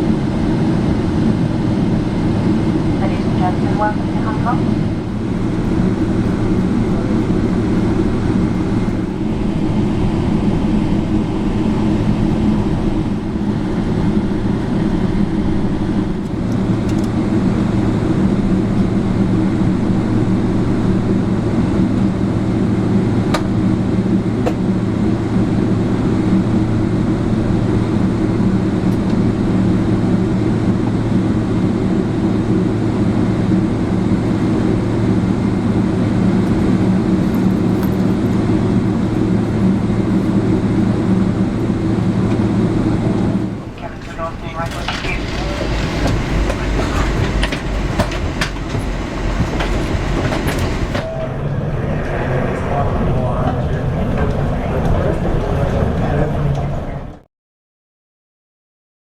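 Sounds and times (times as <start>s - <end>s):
airliner cabin rumble: 0.0s - 57.2s.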